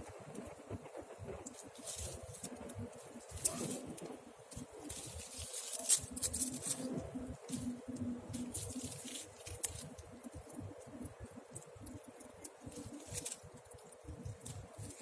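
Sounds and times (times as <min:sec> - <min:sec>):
campfire crackling: 0:00.0 - 0:15.0
burning wood snapping and popping: 0:00.3 - 0:15.0.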